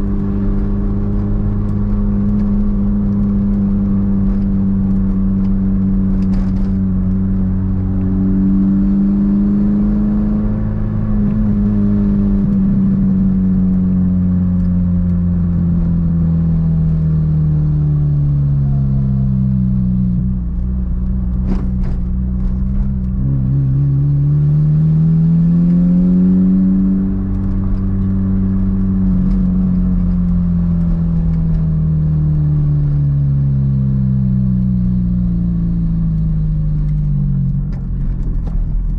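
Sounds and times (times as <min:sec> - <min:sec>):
car engine on the move: 0:00.0 - 0:38.9.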